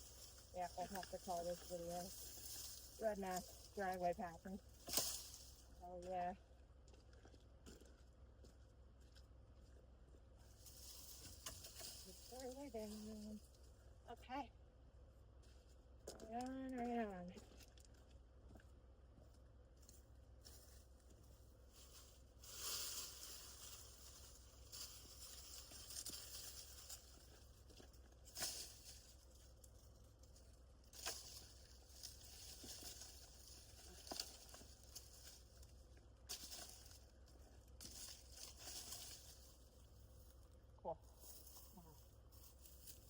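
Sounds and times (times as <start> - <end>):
branches rustling and crackling: 0.0 - 8.0, 10.2 - 14.1, 19.8 - 43.0.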